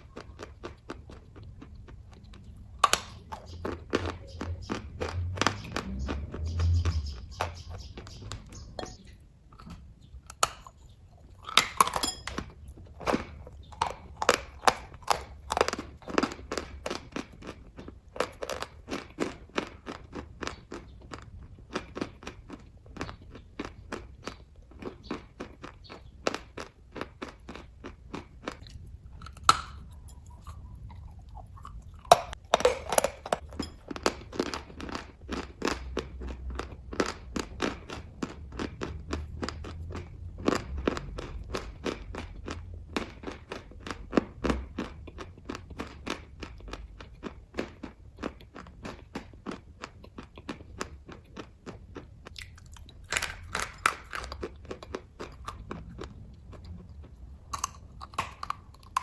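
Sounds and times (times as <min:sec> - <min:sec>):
person chewing: 0:00.0 - 0:59.0.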